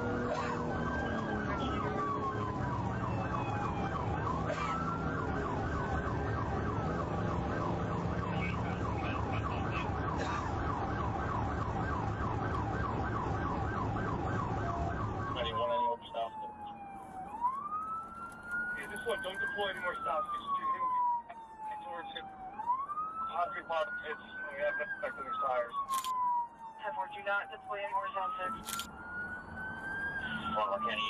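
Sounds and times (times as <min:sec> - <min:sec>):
police siren wailing and yelping: 0:00.0 - 0:31.0
road and engine noise: 0:00.0 - 0:31.0.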